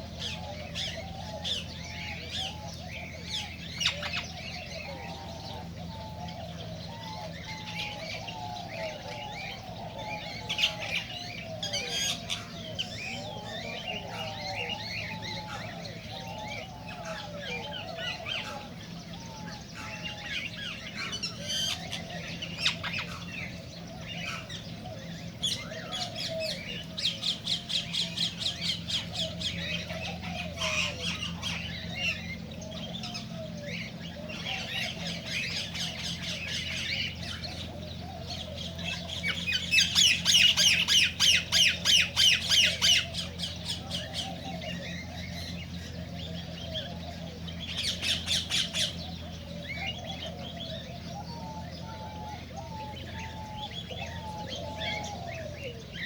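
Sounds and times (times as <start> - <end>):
cockatiels squawking and chirping: 0.0 - 56.0.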